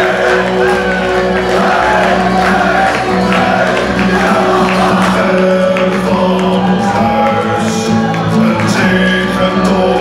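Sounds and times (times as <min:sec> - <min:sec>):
electric guitars: 0:00.0 - 0:10.0
voices singing: 0:00.0 - 0:10.0.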